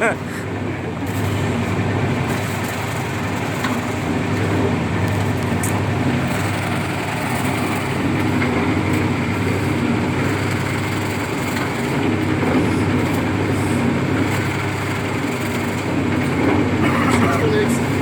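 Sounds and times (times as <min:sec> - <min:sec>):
bread slicing machine humming: 0:00.0 - 0:18.0.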